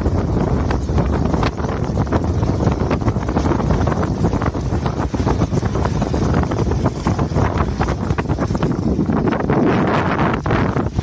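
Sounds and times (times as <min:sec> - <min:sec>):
sled splashing through water: 0:00.0 - 0:11.0
wind buffeting microphone: 0:00.0 - 0:11.0.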